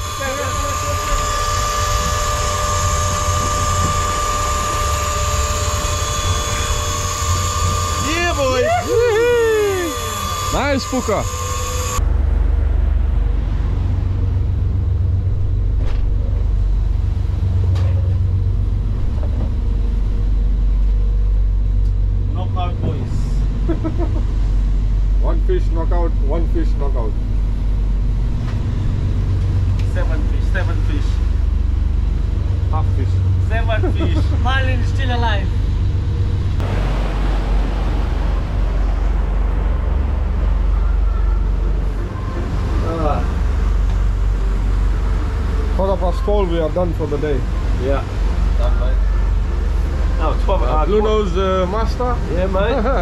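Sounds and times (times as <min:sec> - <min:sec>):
boat engine droning: 0:00.0 - 0:53.0
water rushing from wake: 0:00.0 - 0:53.0.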